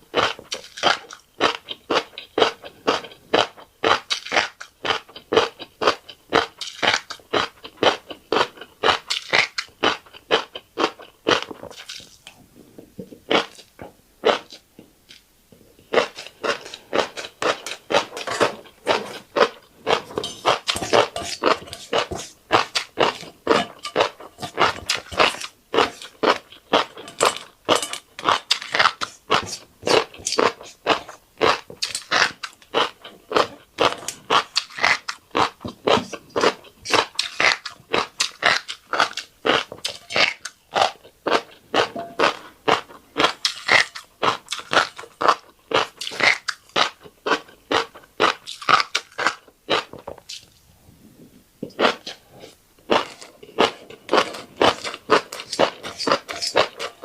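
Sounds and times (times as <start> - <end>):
person chewing crunchy food: 0.0 - 50.6, 51.7 - 57.0.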